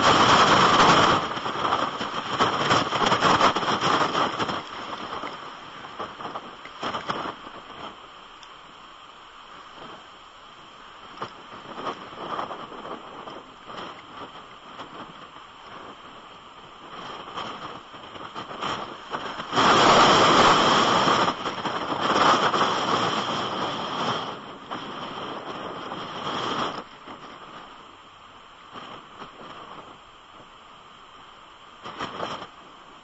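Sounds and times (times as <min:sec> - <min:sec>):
strong wind buffeting microphone: 0:00.0 - 0:30.6, 0:31.7 - 0:33.0
heavy rain: 0:00.0 - 0:33.0.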